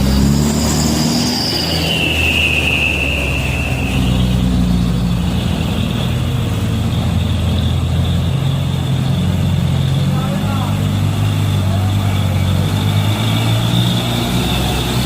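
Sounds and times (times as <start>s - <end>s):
heavy truck engine running: 0.0s - 15.0s
high whine: 0.0s - 15.0s.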